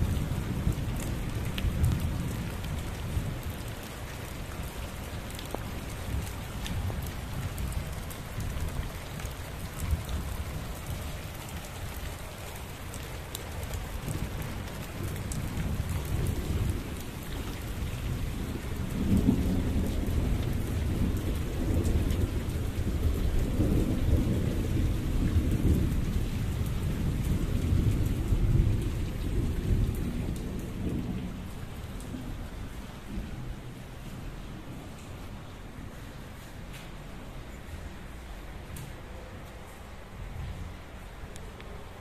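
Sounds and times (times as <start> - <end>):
low rumble of thunder: 0.0 - 12.1, 13.6 - 36.3
heavy rain falling: 0.0 - 42.0.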